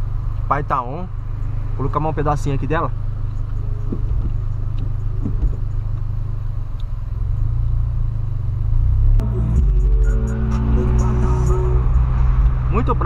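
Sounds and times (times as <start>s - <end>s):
car idling cabin rumble: 0.0s - 13.0s.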